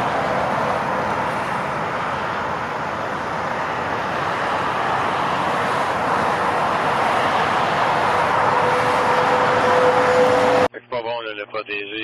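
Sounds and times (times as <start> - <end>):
highway traffic passing: 0.0 - 10.8.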